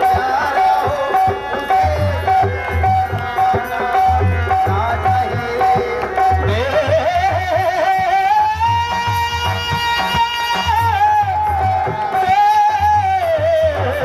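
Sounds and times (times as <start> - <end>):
harmonium: 0.0 - 14.0.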